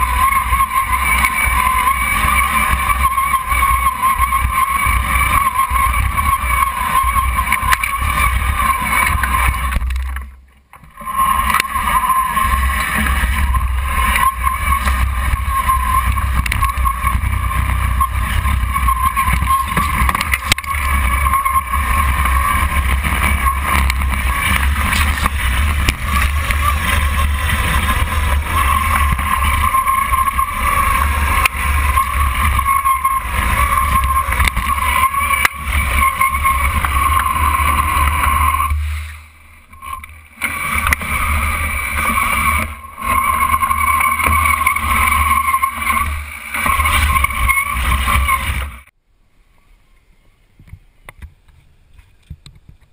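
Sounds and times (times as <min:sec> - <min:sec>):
motor whine: 0:00.0 - 0:48.9
tracked vehicle rumble: 0:00.0 - 0:48.9.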